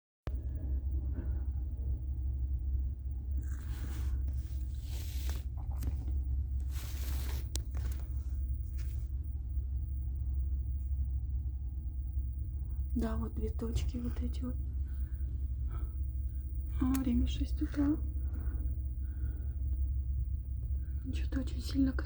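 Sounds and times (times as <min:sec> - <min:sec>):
ship low rumble: 0:00.3 - 0:22.0.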